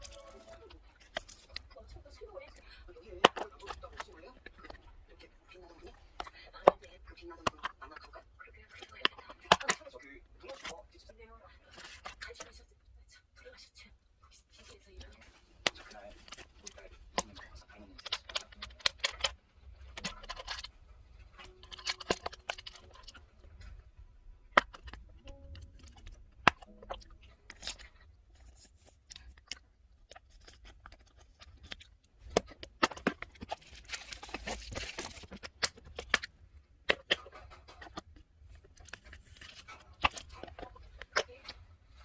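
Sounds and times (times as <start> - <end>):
plastic packaging crinkling: 0.0 - 10.8, 15.0 - 42.0.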